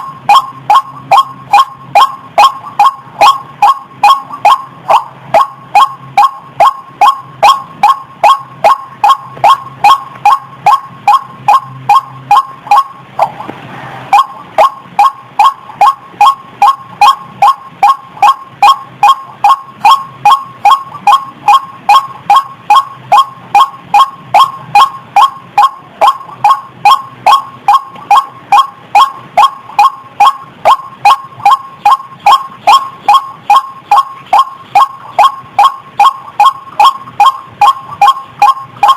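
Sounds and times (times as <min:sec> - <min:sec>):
waterhen calling: 0:00.3 - 0:38.9.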